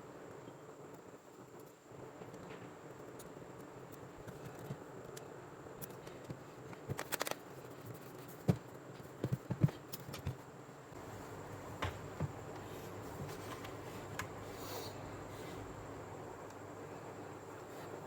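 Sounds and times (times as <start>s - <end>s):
faint high-pitched whine: 0.0s - 18.0s
steady hiss: 0.0s - 18.0s.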